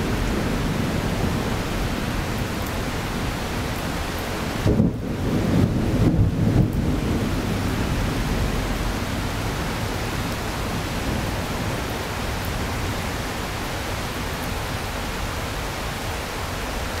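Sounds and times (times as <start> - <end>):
thunder rumble: 0.0 - 14.3
heavy rain hissing: 0.0 - 17.0.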